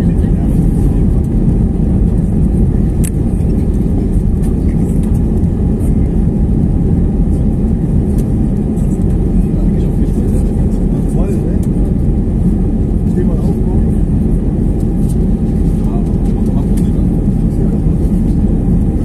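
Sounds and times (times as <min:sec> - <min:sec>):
jet engines at climb power: 0:00.0 - 0:19.0.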